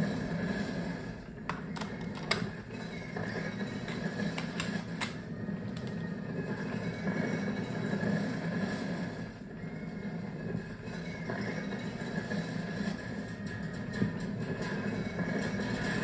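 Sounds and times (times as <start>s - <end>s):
low tape loop drone: 0.0s - 16.0s.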